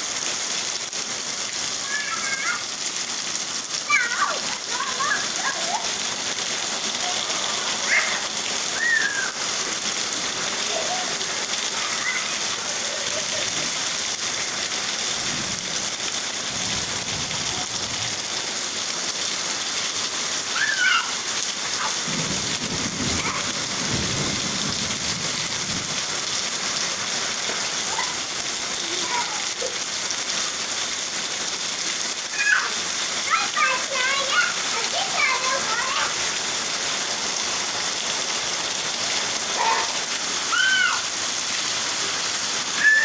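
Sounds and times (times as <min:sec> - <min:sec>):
heavy rain on water and pavement: 0:00.0 - 0:43.0.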